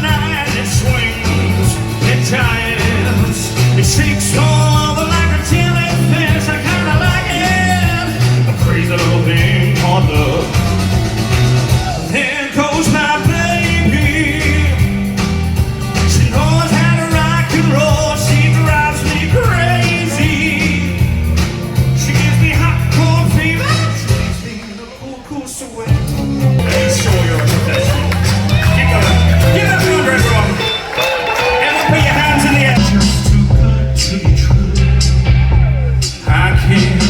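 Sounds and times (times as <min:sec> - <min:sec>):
person singing live: 0:00.0 - 0:37.0
rock and roll instrumental backing: 0:00.0 - 0:37.0.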